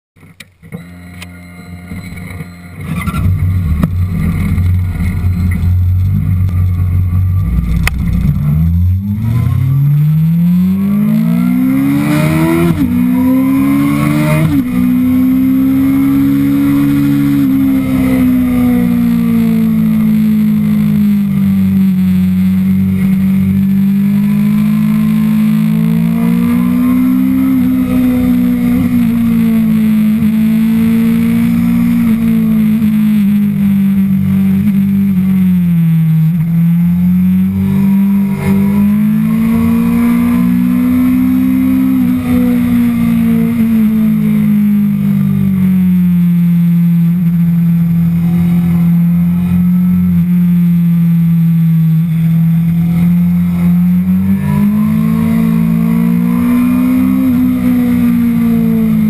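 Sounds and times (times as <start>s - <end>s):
motorcycle engine accelerating: 0.3s - 59.0s.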